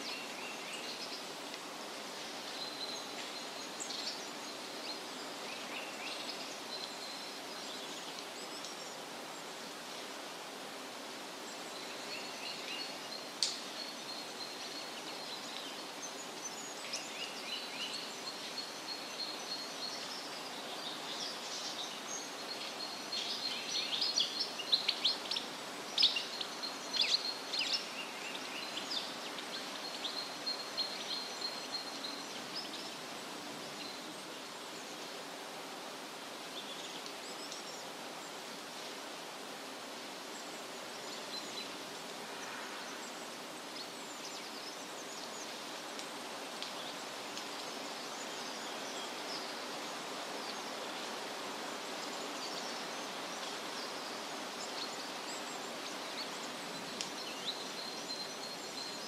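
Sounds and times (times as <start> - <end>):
outdoor background noise: 0.0 - 59.0.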